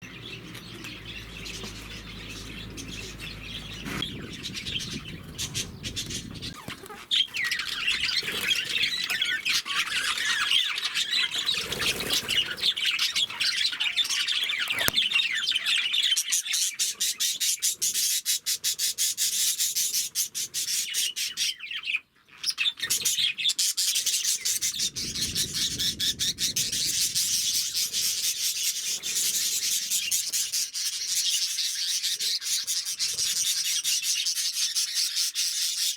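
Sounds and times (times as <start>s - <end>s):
small birds chirping and chattering: 0.0s - 35.9s.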